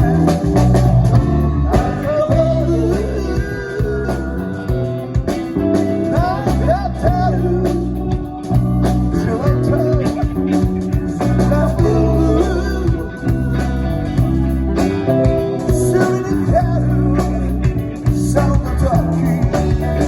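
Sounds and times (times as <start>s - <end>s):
electric guitar lead line: 0.0s - 20.0s
live rock band playing: 0.0s - 20.0s.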